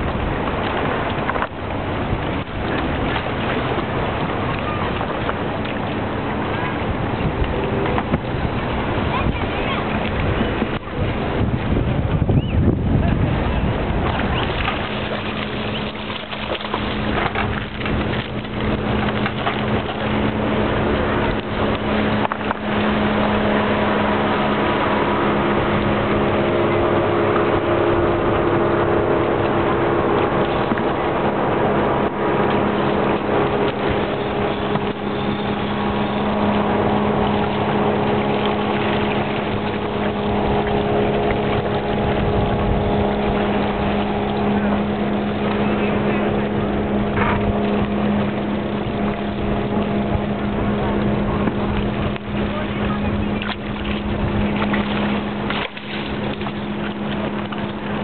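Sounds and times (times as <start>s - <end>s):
boat motor humming: 0.0s - 58.0s
water splashing against rocks: 0.0s - 58.0s.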